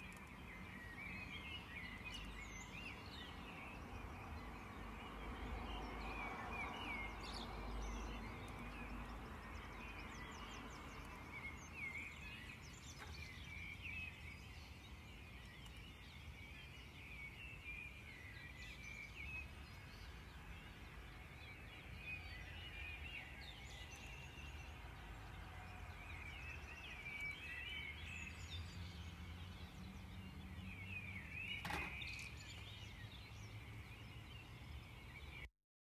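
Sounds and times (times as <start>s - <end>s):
birds chirping: 0.0s - 35.5s.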